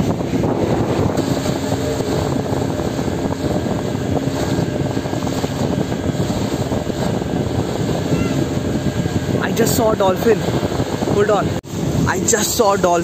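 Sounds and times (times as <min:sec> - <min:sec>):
boat engine drone: 0:00.0 - 0:13.0
water splashing along hull: 0:00.0 - 0:13.0.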